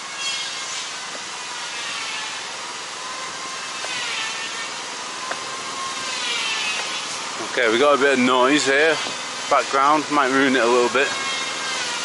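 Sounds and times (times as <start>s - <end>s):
motor saw whining: 0.0s - 12.0s.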